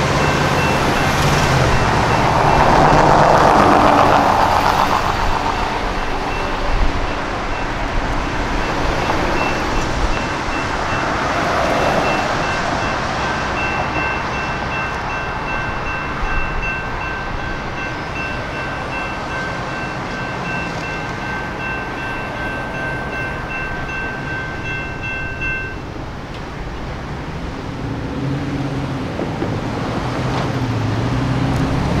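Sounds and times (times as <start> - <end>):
electronic crossing bell ringing: 0.0 - 26.0
car engines revving: 0.0 - 32.0
road traffic: 0.0 - 32.0.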